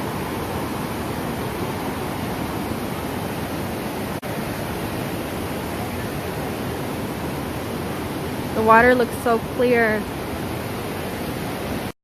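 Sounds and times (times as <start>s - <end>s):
waterfall roaring: 0.0s - 11.9s.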